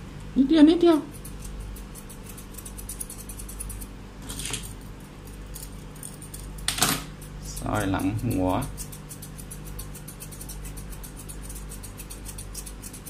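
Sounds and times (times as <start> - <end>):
steady low hum: 0.0 - 13.0
grooming scissors snipping: 1.0 - 13.0.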